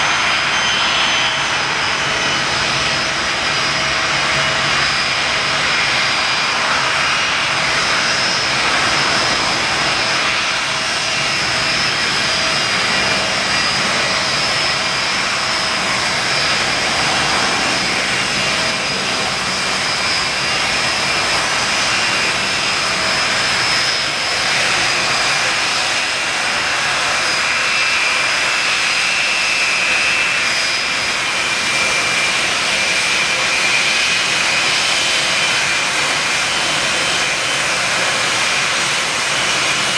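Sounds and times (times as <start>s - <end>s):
jet engine roar and whine: 0.0s - 39.9s.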